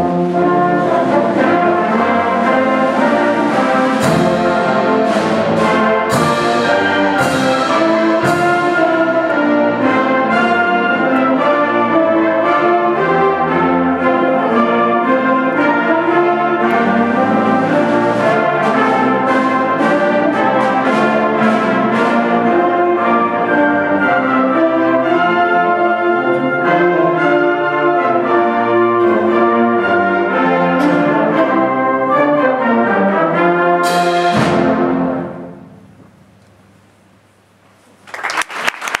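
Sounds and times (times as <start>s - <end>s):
wind band brass chords: 0.0s - 36.0s.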